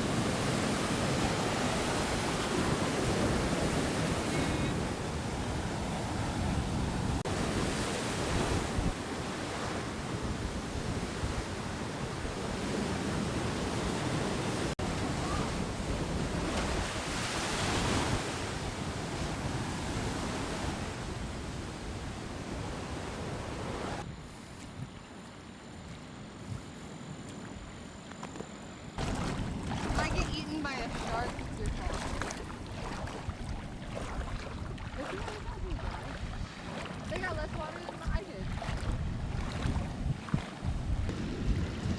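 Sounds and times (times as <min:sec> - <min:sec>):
ocean surf breaking: 0:00.0 - 0:24.0, 0:29.0 - 0:41.9
wind buffeting microphone: 0:00.0 - 0:25.0, 0:29.0 - 0:41.9.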